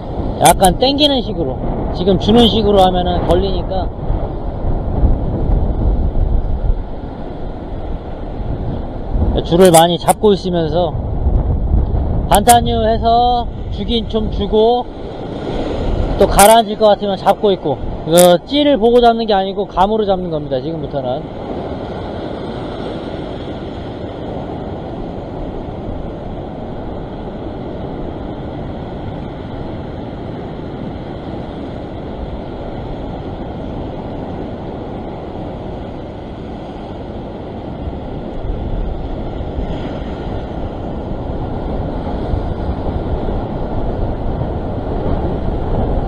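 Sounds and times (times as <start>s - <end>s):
ocean surf breaking on rocks: 0.0s - 46.0s.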